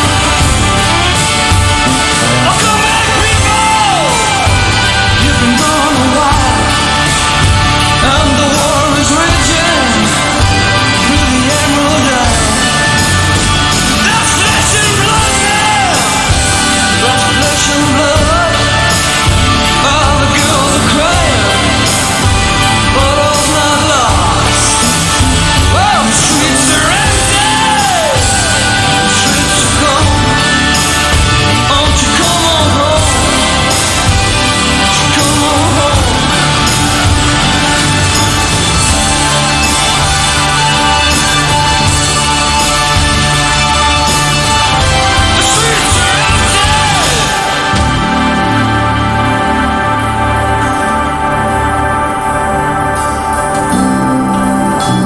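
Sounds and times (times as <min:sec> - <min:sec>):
drum beat: 0:00.0 - 0:51.3
rock music: 0:00.0 - 0:55.0
sliding lead melody: 0:00.0 - 0:55.0.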